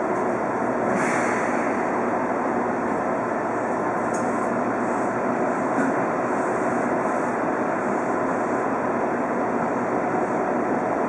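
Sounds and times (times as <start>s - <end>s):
electric train running hum: 0.0s - 11.0s.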